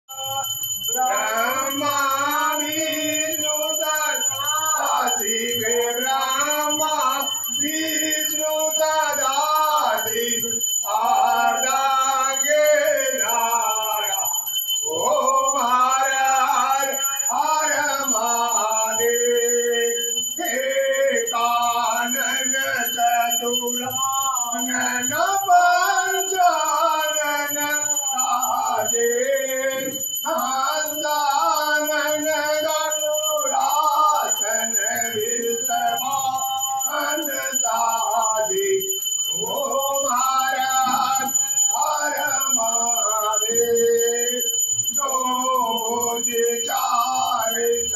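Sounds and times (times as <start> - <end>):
man singing chant-like melody: 0.0 - 47.9.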